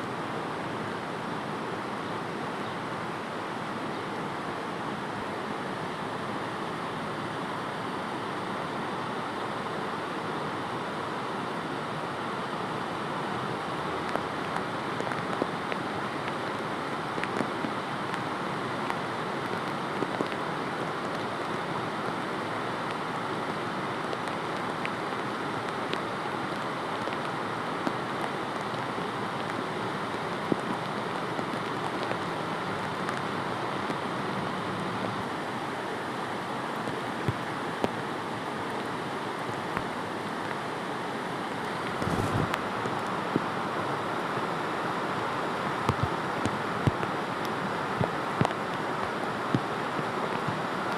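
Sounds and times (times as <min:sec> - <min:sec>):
rushing water: 0:00.0 - 0:50.9.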